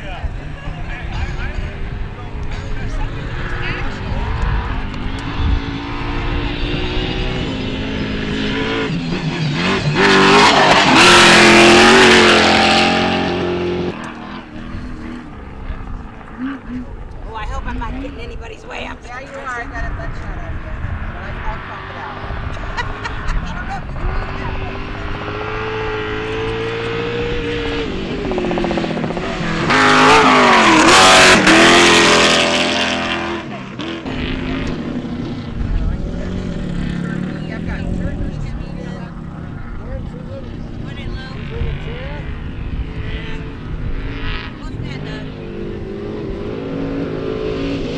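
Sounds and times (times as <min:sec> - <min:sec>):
tyre and dirt noise: 0:00.0 - 0:47.9
race truck engine at high revs: 0:02.0 - 0:16.8, 0:20.8 - 0:47.9.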